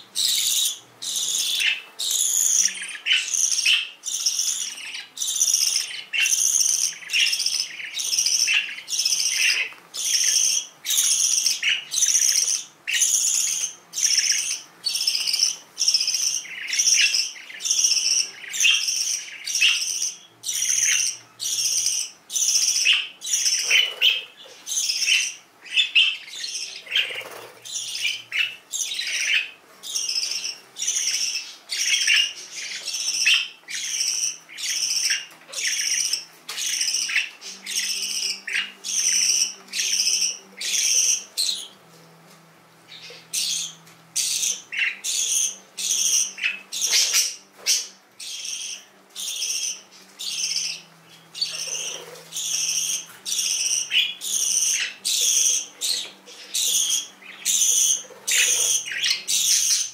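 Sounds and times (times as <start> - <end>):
budgerigars chirping: 0.0 - 41.8, 42.9 - 59.9.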